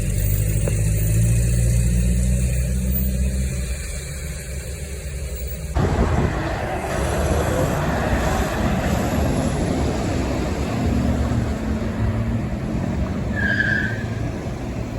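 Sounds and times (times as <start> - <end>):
road traffic passing: 0.0 - 14.9.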